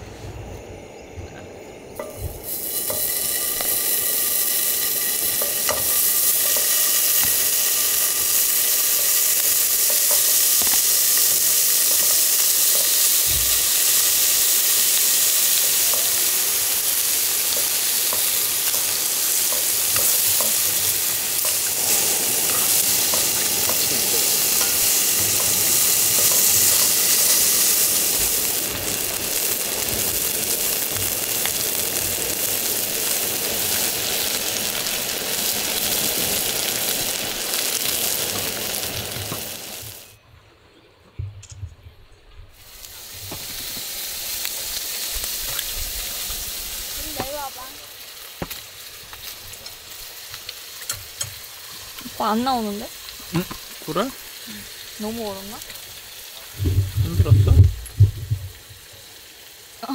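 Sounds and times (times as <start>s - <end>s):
food sizzling in a pan: 1.7s - 40.2s, 42.6s - 59.9s.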